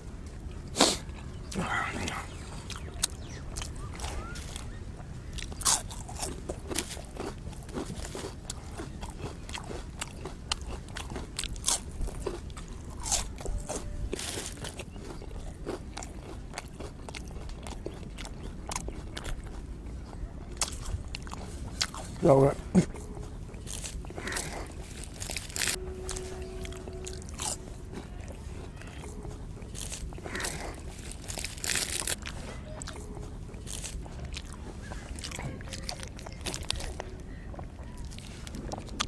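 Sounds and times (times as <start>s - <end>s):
person chewing crunchy pastry: 0.6s - 39.0s.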